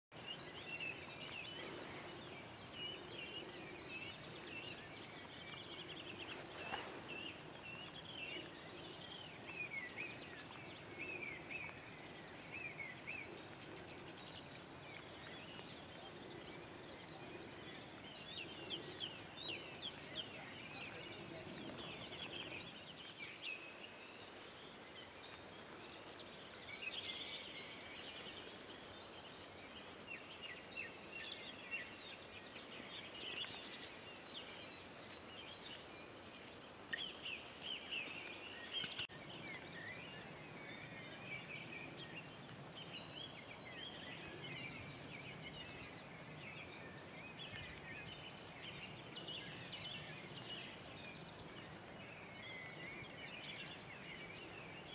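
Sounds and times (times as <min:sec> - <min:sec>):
birds chirping: 0:00.1 - 0:54.9
faint outdoor background noise: 0:00.1 - 0:54.9.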